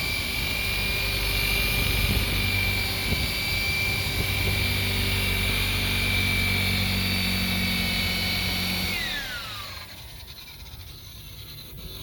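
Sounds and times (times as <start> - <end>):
rotary polisher whining: 0.0 - 12.0.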